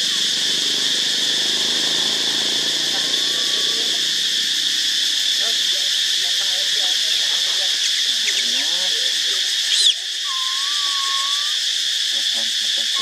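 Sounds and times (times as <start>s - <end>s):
forest insects buzzing: 0.0s - 13.0s.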